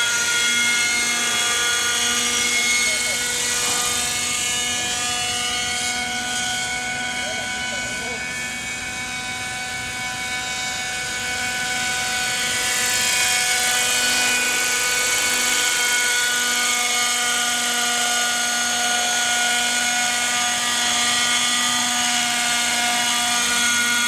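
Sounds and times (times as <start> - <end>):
rc helicopter engine buzzing: 0.0 - 24.0.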